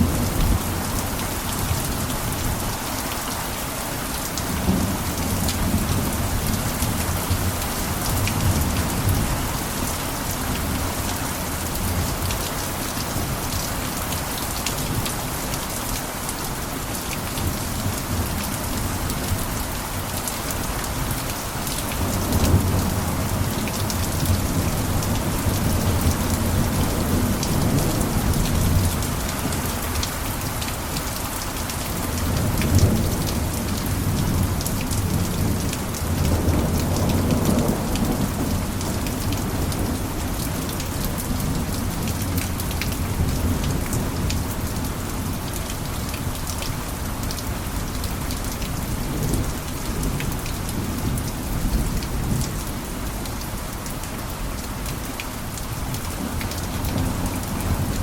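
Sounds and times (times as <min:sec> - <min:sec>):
rain on a roof: 0:00.0 - 0:58.0.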